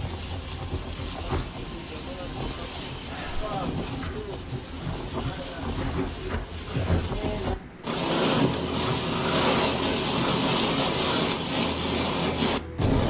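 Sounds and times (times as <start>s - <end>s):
driving rain: 0.0s - 13.0s.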